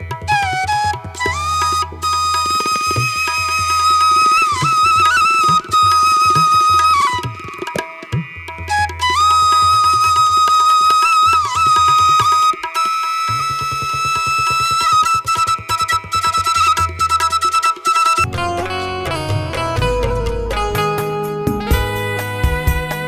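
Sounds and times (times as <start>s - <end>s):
held melody line: 0.0s - 8.0s, 8.7s - 19.3s.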